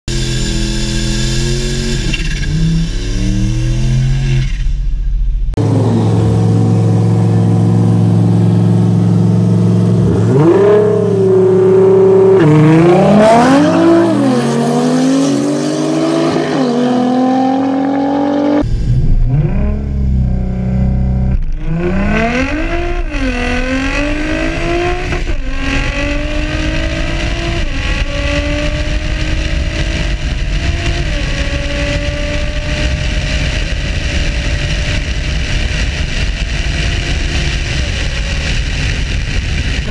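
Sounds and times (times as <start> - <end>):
car engines revving hard: 0.1 - 4.6, 5.5 - 39.9.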